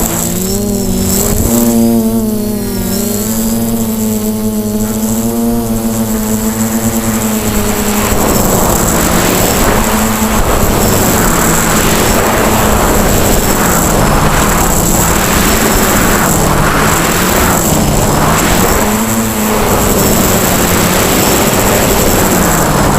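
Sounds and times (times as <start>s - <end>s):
drone motors whining: 0.0s - 22.9s
rushing air noise: 0.0s - 22.9s.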